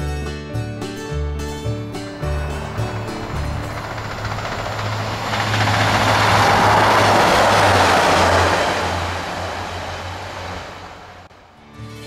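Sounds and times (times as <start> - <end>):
low engine drone: 0.8 - 11.4
train wheels rushing on rail: 1.5 - 11.3.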